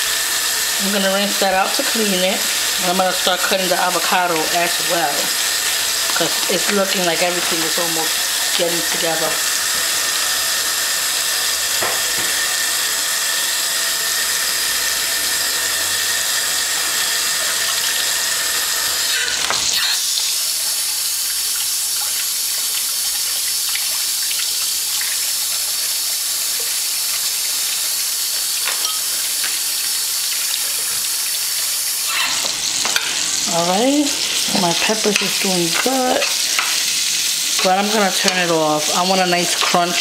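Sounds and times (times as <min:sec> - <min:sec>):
peppers sizzling in a pan: 0:00.0 - 0:40.0
tap water running: 0:00.0 - 0:40.0.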